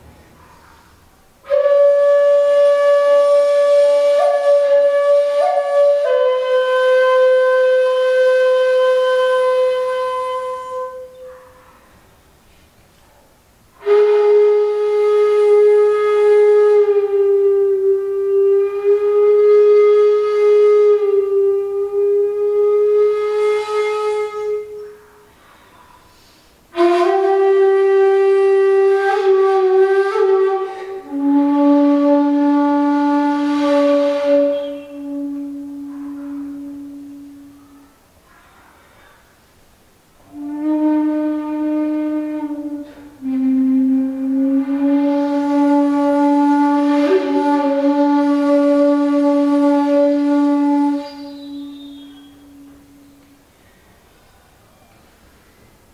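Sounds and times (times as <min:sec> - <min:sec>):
bamboo flute long notes: 0:01.4 - 0:11.7, 0:13.8 - 0:38.6, 0:40.2 - 0:53.5.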